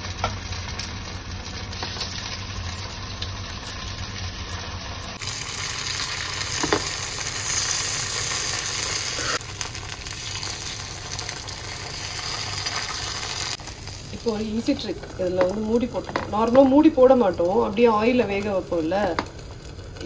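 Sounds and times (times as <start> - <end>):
hot oil sizzling: 0.0 - 20.0.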